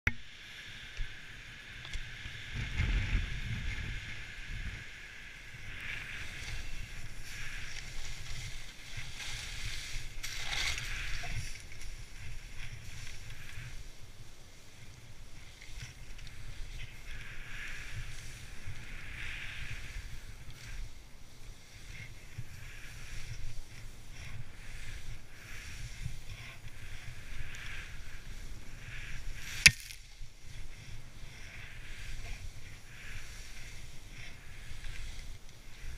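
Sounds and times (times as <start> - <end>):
wind rumbling on microphone: 0.1 - 35.9
skis hissing through powder snow: 0.3 - 35.9.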